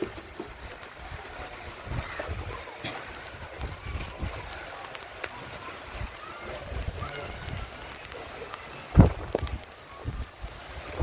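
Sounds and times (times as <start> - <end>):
heavy rain: 0.0 - 11.0
wind: 0.0 - 11.0.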